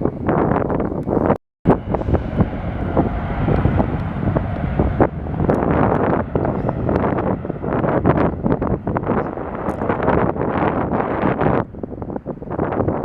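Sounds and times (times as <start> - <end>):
wind noise on microphone: 0.0 - 13.0
jet engines running: 0.1 - 13.0.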